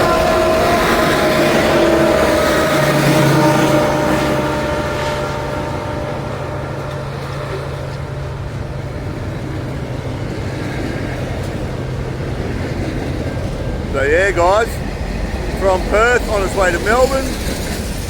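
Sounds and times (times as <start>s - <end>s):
diesel locomotive drone: 0.0s - 18.0s
freight train wagons rumbling: 0.0s - 18.0s.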